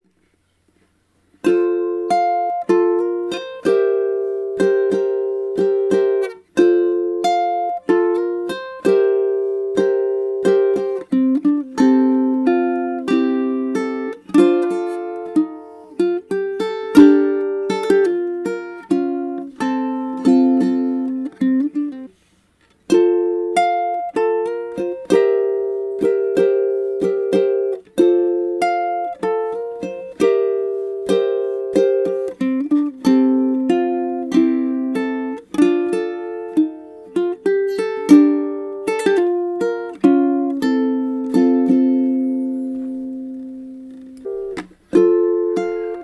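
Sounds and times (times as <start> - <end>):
ukulele playing melody with chords: 1.3 - 46.0.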